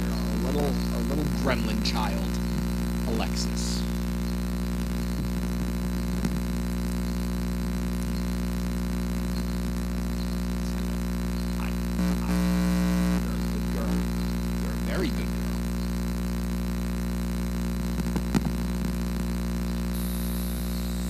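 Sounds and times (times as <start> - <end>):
electrical hum of microphone line: 0.0 - 21.0.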